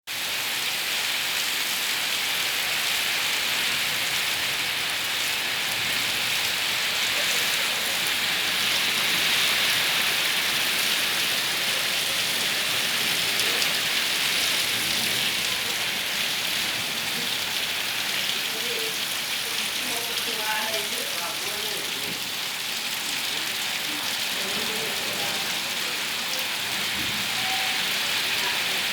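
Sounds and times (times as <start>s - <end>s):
heavy rain: 0.1s - 28.9s.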